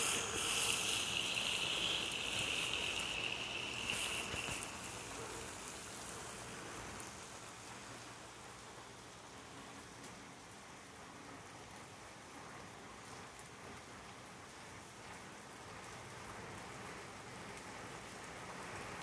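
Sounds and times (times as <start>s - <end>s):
heavy rain on wet pavement: 0.0s - 19.0s.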